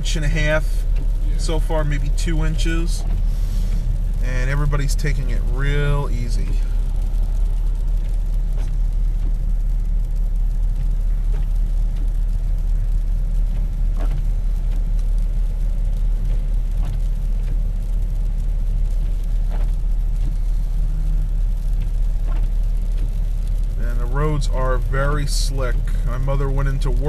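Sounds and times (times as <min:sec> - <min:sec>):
engine and tyre rumble in cabin: 0:00.0 - 0:27.0.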